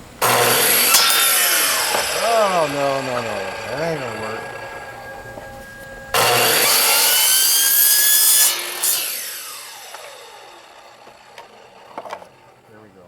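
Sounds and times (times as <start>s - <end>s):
electric saw whining: 0.0s - 12.7s.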